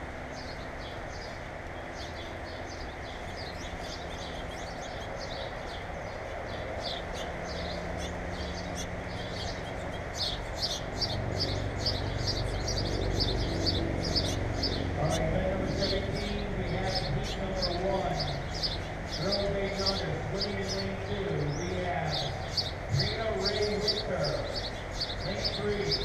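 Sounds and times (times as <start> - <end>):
low steady hum: 0.0 - 26.0
small birds chirping: 0.2 - 26.0.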